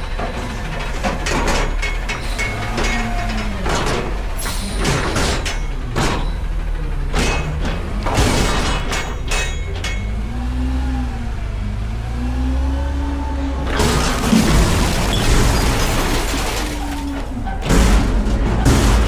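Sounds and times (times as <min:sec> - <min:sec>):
metal clanks and bangs: 0:00.0 - 0:10.8, 0:13.6 - 0:19.0
truck diesel engine revving: 0:00.0 - 0:19.0.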